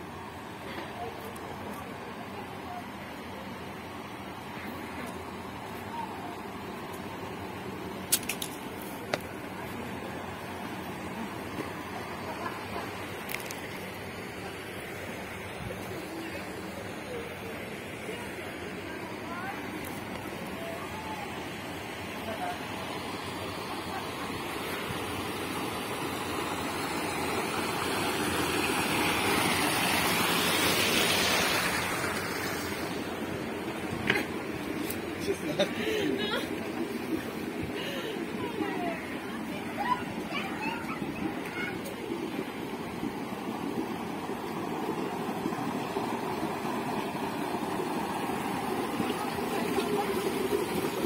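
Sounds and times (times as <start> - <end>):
outdoor background noise: 0.0 - 51.0
water rushing down cascade: 0.0 - 51.0.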